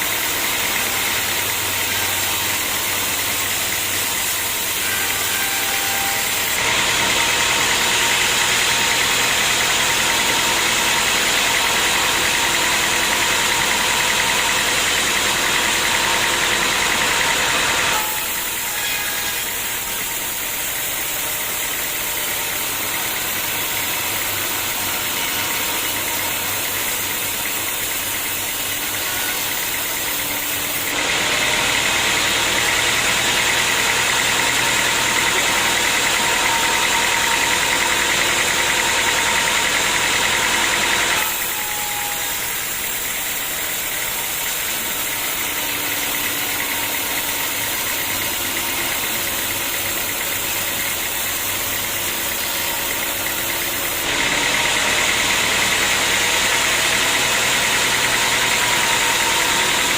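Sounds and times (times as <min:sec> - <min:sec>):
saw cutting with hiss and whine: 0:00.0 - 0:59.9
sawmill machinery running: 0:00.0 - 0:59.9.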